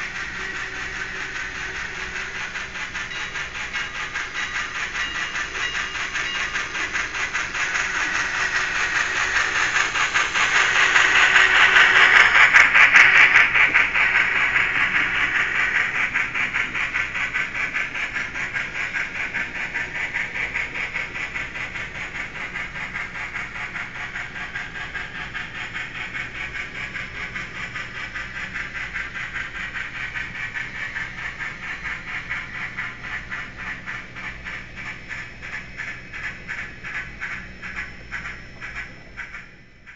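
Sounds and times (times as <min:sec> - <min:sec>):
model steam locomotive chuffs: 0:00.0 - 0:39.9
rolling freight cars: 0:00.0 - 0:39.9.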